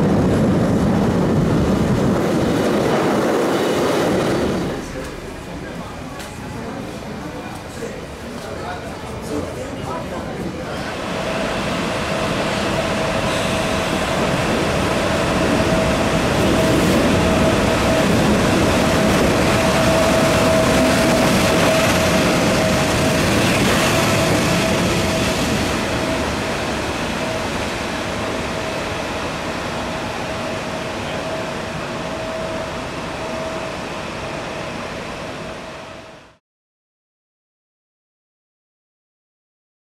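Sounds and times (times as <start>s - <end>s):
electric locomotive rumble and whine: 0.0s - 36.4s.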